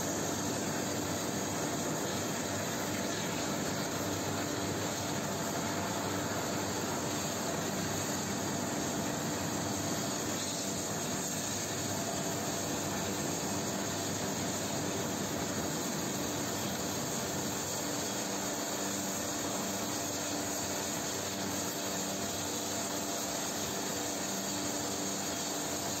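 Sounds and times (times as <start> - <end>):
industrial furnace roar: 0.0 - 26.0.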